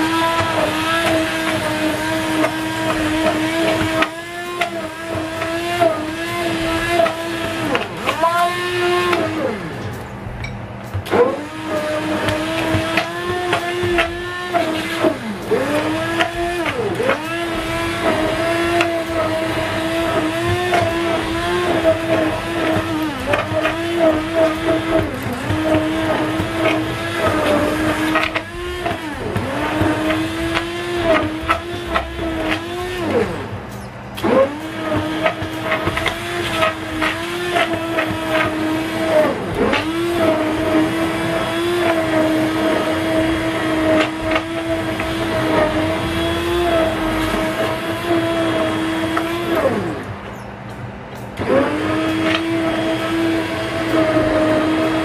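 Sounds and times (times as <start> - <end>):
stick blender motor whining: 0.0 - 10.0, 10.9 - 50.5, 51.4 - 55.0.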